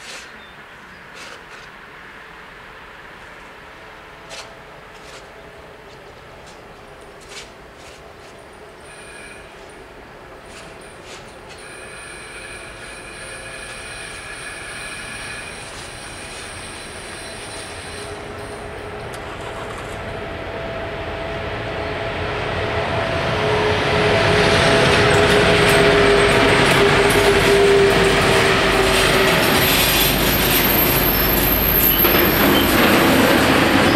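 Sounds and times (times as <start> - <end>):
diesel freight train passing: 1.6 - 33.9
train whine: 2.2 - 33.9.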